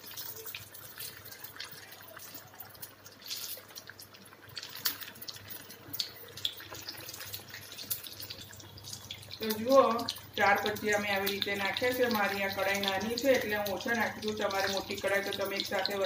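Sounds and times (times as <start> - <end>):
oil crackles and pops: 0.0 - 16.0
potato slices deep-frying in oil: 0.0 - 16.0.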